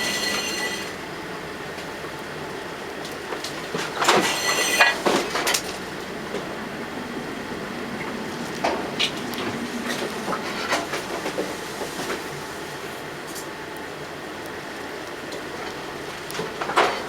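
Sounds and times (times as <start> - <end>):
steady rushing storm noise: 0.0 - 17.0.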